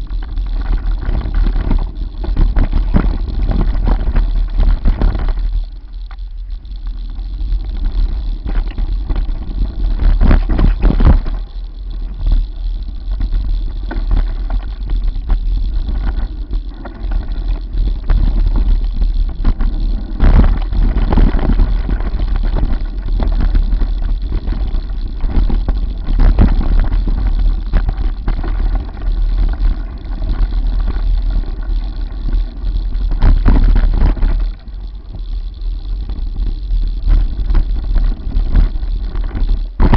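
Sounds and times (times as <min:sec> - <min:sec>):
bike knocking and rattling: 0:00.0 - 0:39.9
wind rumble on microphone: 0:00.0 - 0:39.9.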